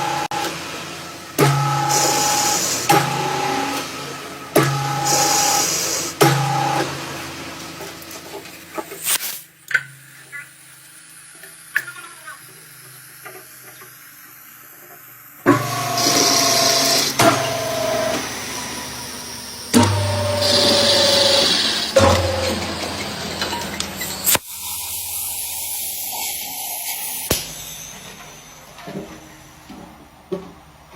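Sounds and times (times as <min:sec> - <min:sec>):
lathe cutting whine with hiss: 0:00.0 - 0:30.9.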